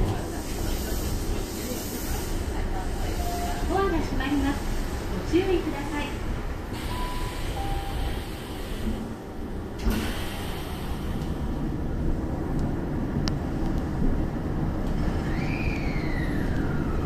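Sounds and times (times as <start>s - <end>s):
train doors sliding shut: 0.0s - 11.8s, 13.4s - 17.0s
train car humming: 0.0s - 17.0s.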